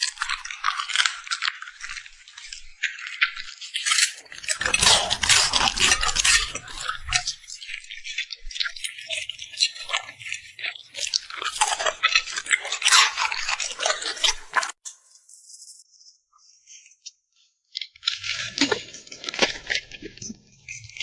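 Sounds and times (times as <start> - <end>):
dog crunching food: 0.0 - 14.8, 18.0 - 21.0.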